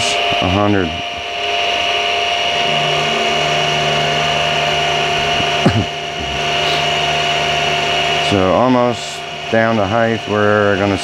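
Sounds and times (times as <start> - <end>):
end mill cutting metal: 0.0 - 11.0
milling machine whine: 0.0 - 11.0.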